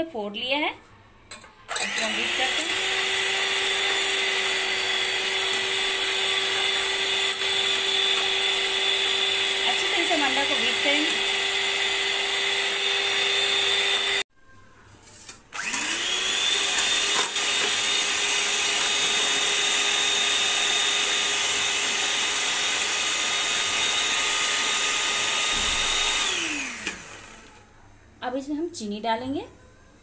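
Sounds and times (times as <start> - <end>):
electric hand mixer whirring: 1.7 - 14.3, 15.5 - 27.6.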